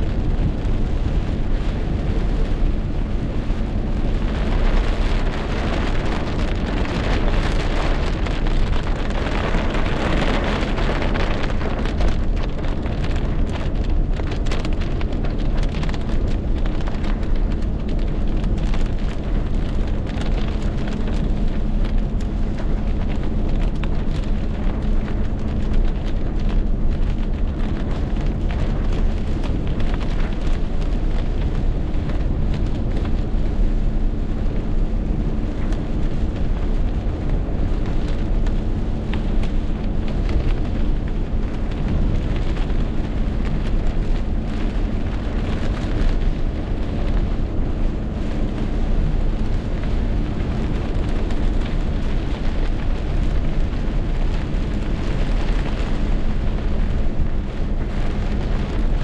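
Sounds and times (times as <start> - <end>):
constant low rumble: 0.0 - 59.0
heavy rain pouring: 0.0 - 59.0.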